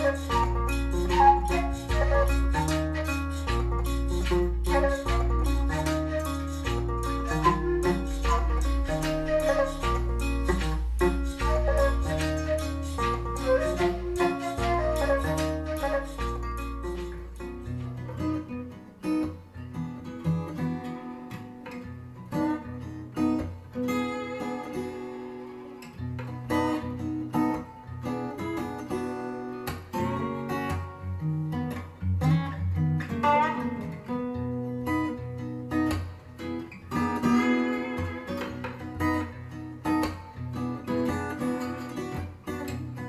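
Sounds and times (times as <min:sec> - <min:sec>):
acoustic blues guitar through speakers: 0:00.0 - 0:43.0.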